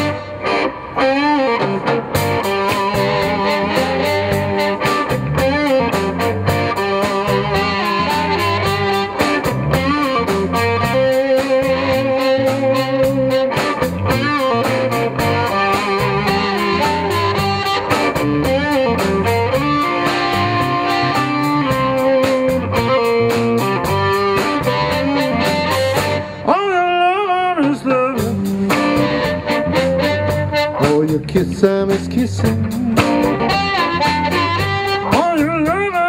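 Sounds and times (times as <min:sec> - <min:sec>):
drums keeping a steady beat: 0:00.0 - 0:26.8, 0:27.5 - 0:36.0
amplified blues harmonica: 0:00.0 - 0:36.0
electric guitars: 0:00.0 - 0:36.0.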